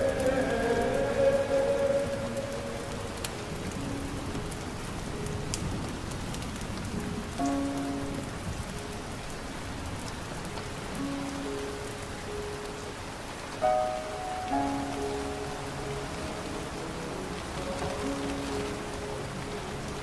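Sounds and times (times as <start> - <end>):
rain on a hard surface: 0.0 - 20.0
soft background music notes: 0.0 - 20.0.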